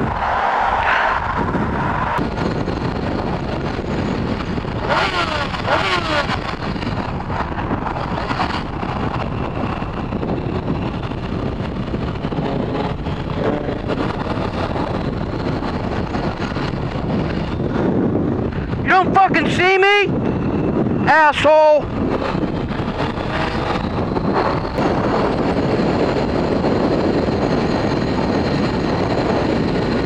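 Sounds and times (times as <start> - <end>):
motorcycle engine: 0.0 - 30.0
wind rush on microphone: 0.0 - 30.0.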